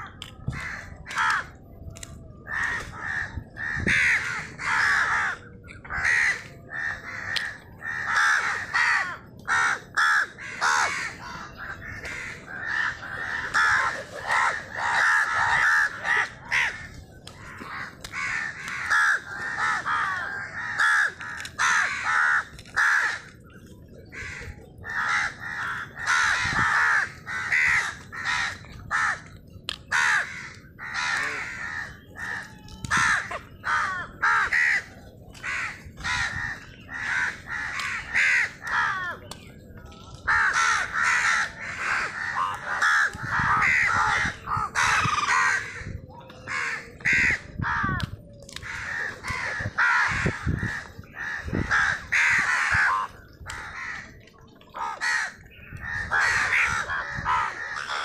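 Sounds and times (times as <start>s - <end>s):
crows cawing: 0.0s - 1.6s, 2.4s - 23.5s, 24.1s - 39.4s, 40.2s - 58.0s.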